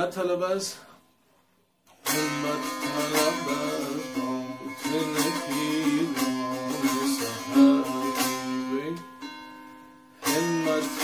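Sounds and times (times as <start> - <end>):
long-necked lute strummed: 1.9 - 11.0.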